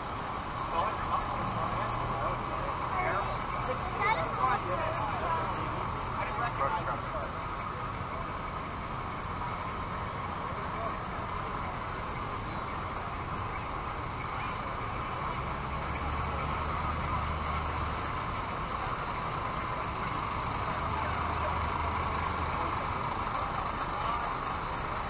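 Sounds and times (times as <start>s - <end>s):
fire truck engines rumbling: 0.0s - 25.0s.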